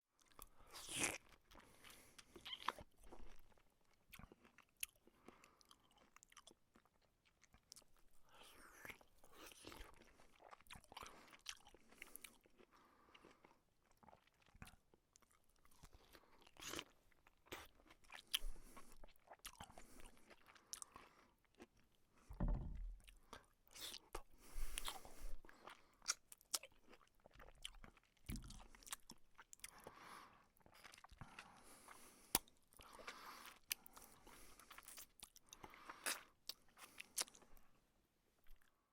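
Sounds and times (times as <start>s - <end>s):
person chewing and biting: 0.2s - 21.9s, 23.0s - 30.0s, 30.6s - 37.5s.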